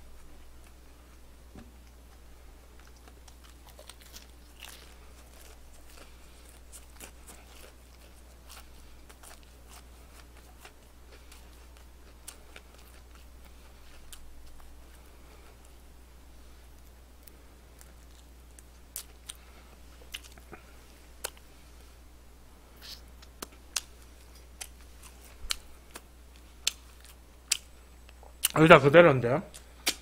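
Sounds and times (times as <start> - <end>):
steady low hum: 0.0 - 30.0
crunchy chewing: 0.1 - 15.9, 16.6 - 21.9, 22.7 - 28.6.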